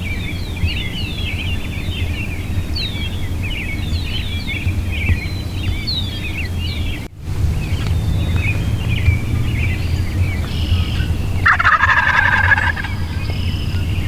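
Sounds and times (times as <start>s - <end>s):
songbirds chirping: 0.0s - 14.0s
steady low rumble: 2.1s - 14.0s.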